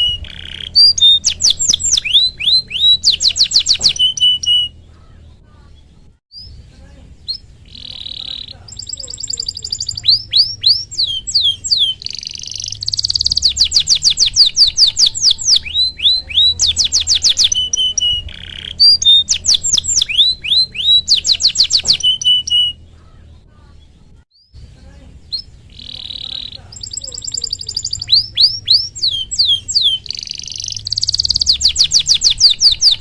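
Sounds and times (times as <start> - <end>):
canary singing: 0.0 - 33.0.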